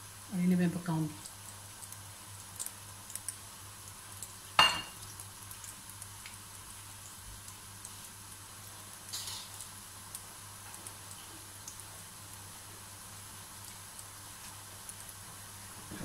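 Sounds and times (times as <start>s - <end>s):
food sizzling in oil: 0.0s - 16.0s
small crackle: 1.1s - 12.6s, 13.4s - 16.0s.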